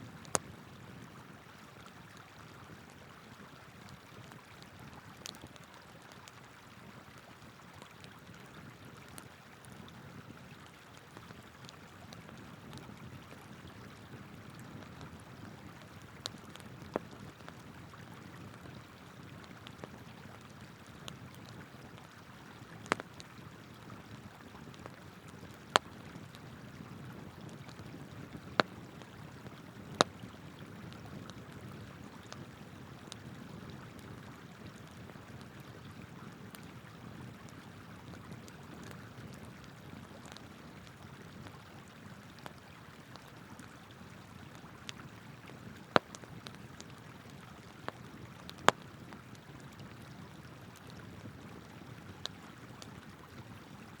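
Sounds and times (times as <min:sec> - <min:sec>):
campfire crackling and popping: 0:00.1 - 0:01.1, 0:03.8 - 0:53.5.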